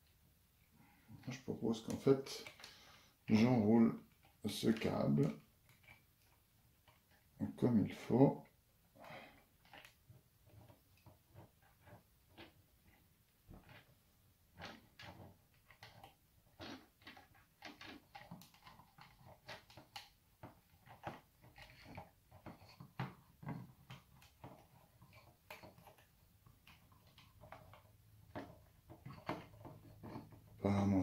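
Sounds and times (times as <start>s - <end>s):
cable handling clicks and rustles: 1.1s - 31.0s.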